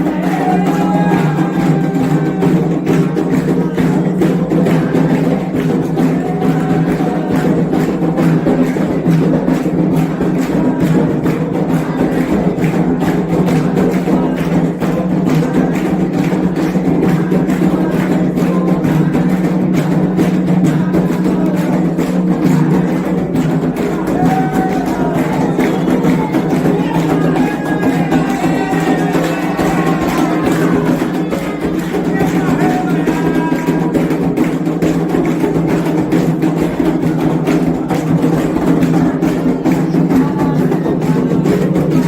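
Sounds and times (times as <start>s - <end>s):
hand drums playing: 0.0s - 42.0s
voices singing: 0.0s - 42.0s.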